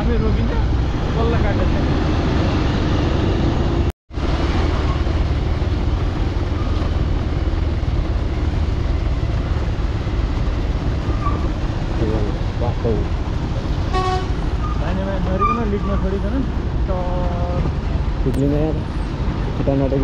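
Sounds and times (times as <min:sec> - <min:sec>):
motorcycle engine and road noise: 0:00.0 - 0:20.0.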